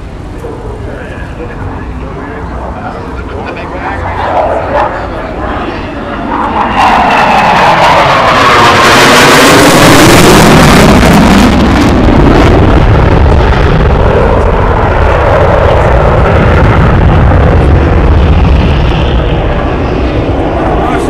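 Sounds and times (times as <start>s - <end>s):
jet aircraft roar: 0.0s - 21.0s.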